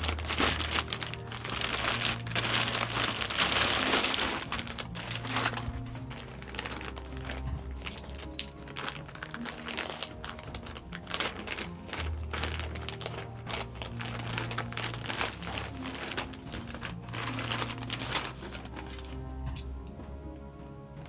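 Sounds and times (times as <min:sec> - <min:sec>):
packaging crinkling: 0:00.0 - 0:19.6
soft background music: 0:00.0 - 0:21.0.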